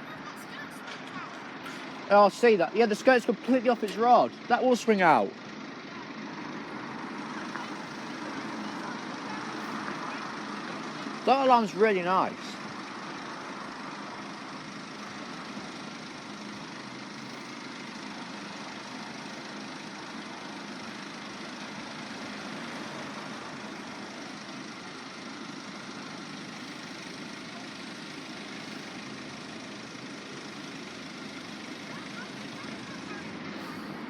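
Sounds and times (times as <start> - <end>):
engine humming: 0.0 - 34.0
outdoor background noise: 0.0 - 34.0.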